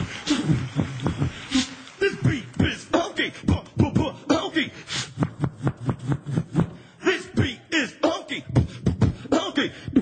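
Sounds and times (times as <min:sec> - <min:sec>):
beatboxing into microphone: 0:00.0 - 0:10.0.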